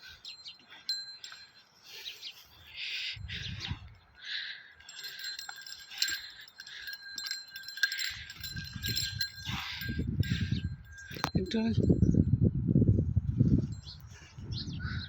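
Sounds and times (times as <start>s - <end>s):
small metal bells jingling: 0.0s - 12.4s.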